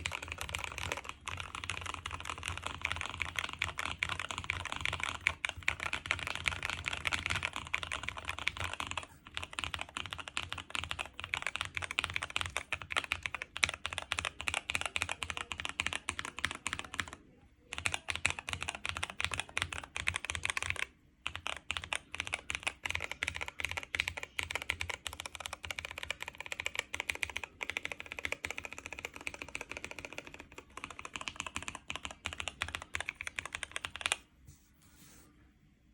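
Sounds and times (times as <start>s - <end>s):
fast typing on mechanical keyboard: 0.0s - 34.2s.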